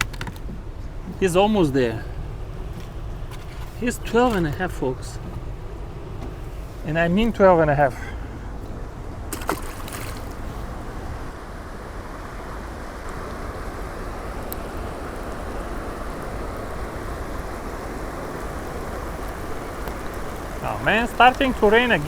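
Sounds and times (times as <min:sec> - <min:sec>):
light rain hissing: 0:00.7 - 0:09.0, 0:10.4 - 0:22.0.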